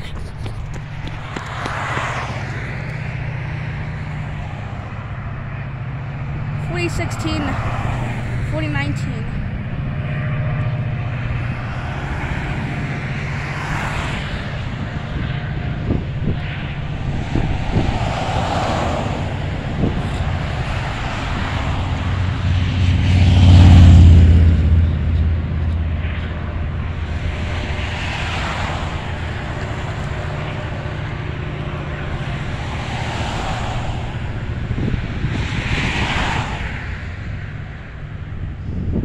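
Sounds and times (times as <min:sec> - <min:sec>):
low engine rumble: 0:00.0 - 0:39.0
passing traffic rushes: 0:00.0 - 0:39.0.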